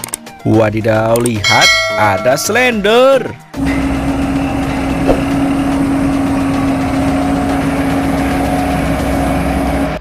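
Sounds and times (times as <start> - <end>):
road roller diesel engine droning: 1.7 - 10.0.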